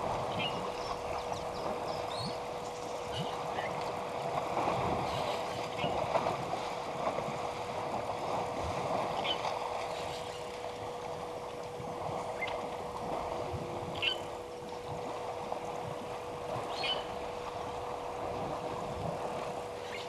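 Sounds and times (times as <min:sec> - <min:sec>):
faint steady hum: 0:00.0 - 0:20.0
water sloshing and splashing: 0:00.0 - 0:20.0.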